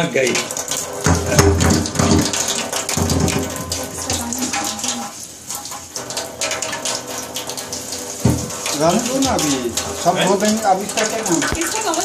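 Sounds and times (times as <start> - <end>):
tap water splashing into sink: 0.0 - 12.0
steel utensil clinking: 0.3 - 12.0.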